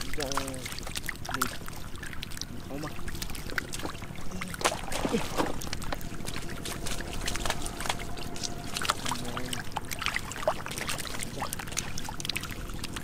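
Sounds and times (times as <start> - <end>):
catfish splashing in muddy water: 0.0 - 13.0.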